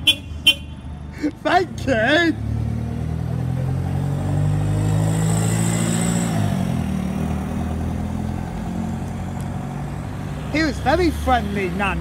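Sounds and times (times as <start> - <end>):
bus engine pulling away: 0.8 - 12.0.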